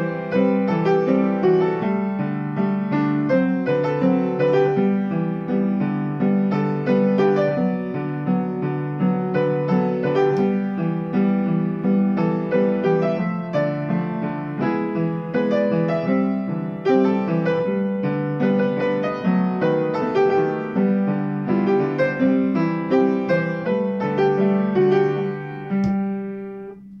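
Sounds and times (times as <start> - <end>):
upright piano playing: 0.0 - 27.0.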